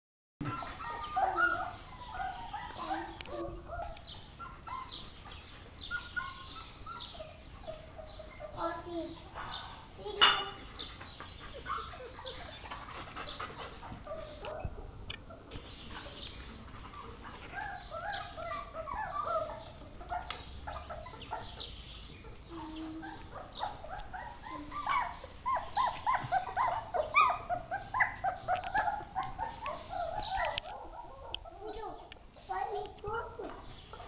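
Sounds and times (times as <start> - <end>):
puppies whimpering and yipping: 0.4 - 9.8, 10.6 - 32.1.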